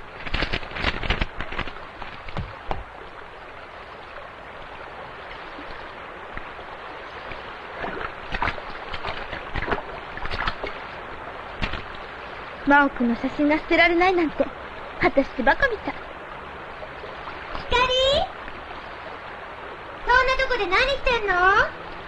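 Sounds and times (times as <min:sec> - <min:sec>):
river water flowing over stones: 0:00.0 - 0:22.0
splashes of wading: 0:00.0 - 0:22.0.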